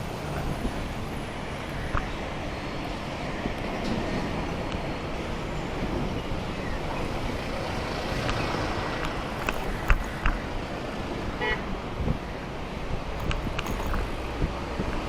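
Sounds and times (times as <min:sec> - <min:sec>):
road traffic: 0:00.0 - 0:15.0
wind noise: 0:00.0 - 0:15.0.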